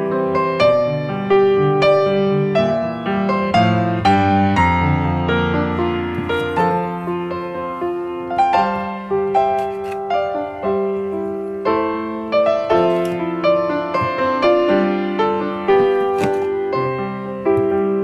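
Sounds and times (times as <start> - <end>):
gentle piano tune: 0.0 - 18.0.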